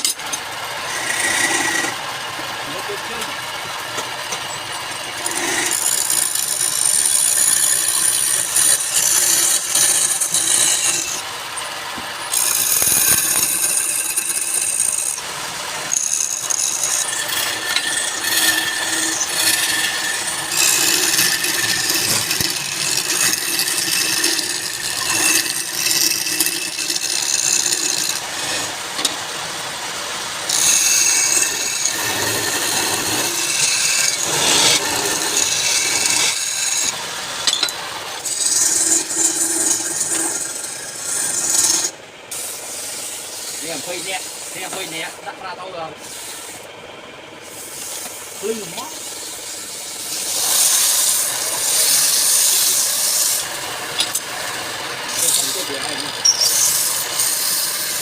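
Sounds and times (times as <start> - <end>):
lathe tool cutting wood: 0.0 - 45.3, 47.4 - 58.0.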